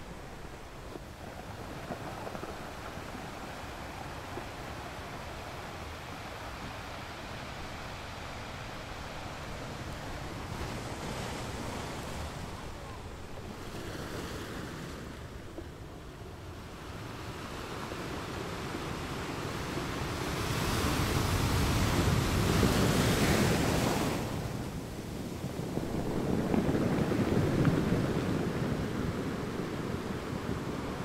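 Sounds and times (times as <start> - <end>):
sea waves: 0.0 - 31.0
wind noise on microphone: 0.0 - 31.0.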